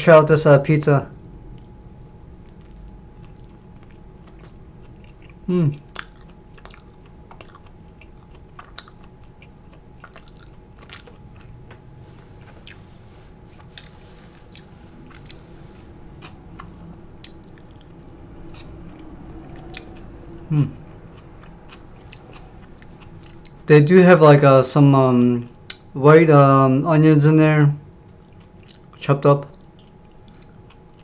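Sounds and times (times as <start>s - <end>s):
person chewing food: 1.1s - 23.7s, 28.0s - 31.0s.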